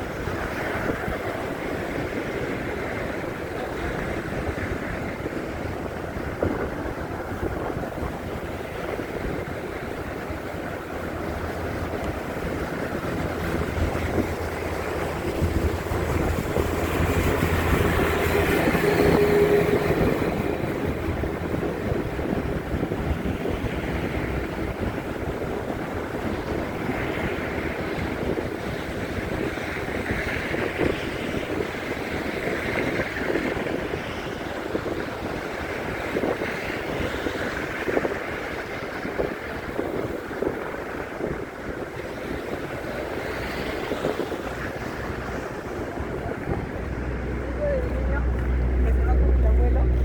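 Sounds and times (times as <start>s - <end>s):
passing engine hum: 0.0s - 50.0s
traffic rumble: 0.0s - 50.0s
wind on microphone: 0.0s - 50.0s.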